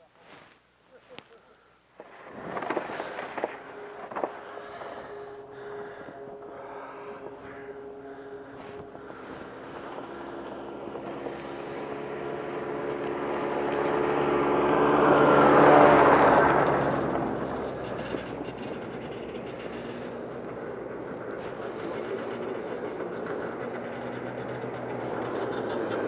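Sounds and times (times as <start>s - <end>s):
snowmobile engine passing: 2.0s - 26.0s.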